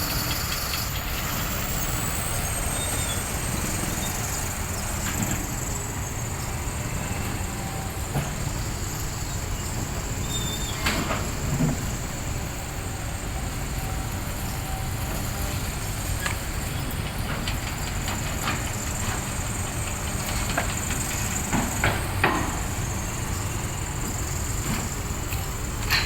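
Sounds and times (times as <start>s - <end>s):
diesel machinery rumbling: 0.0s - 26.0s.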